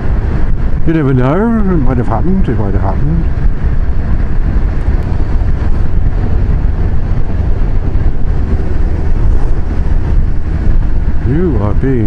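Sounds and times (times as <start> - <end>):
motorcycle engine droning: 0.0 - 12.0
wind rush on microphone: 0.0 - 12.0.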